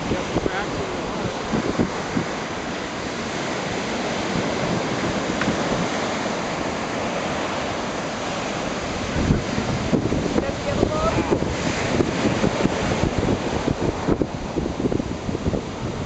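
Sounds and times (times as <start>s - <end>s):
ocean surf on a beach: 0.0s - 16.0s.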